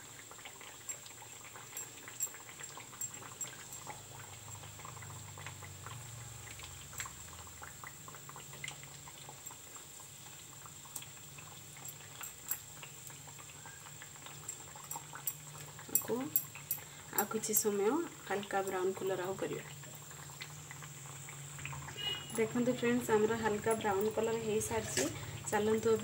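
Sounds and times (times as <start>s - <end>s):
deep-frying oil sizzling: 0.0s - 26.0s.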